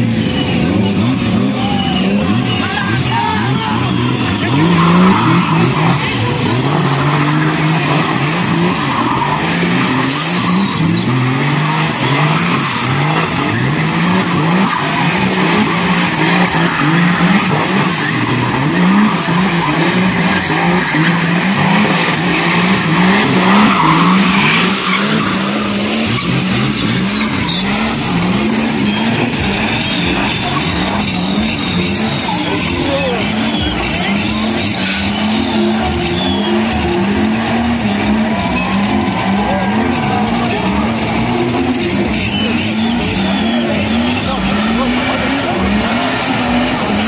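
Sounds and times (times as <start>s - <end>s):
car engine revving hard: 0.0s - 47.0s
tyres skidding on wet asphalt: 0.0s - 47.0s.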